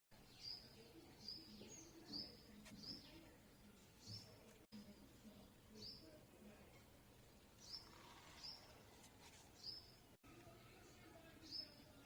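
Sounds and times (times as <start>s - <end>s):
low background noise: 0.1s - 12.0s.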